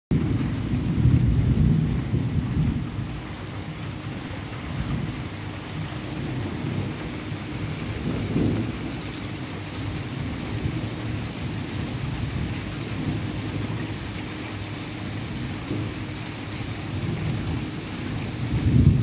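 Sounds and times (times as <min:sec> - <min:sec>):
heavy rain hissing: 0:00.1 - 0:19.0
thunder rumbling: 0:00.1 - 0:19.0.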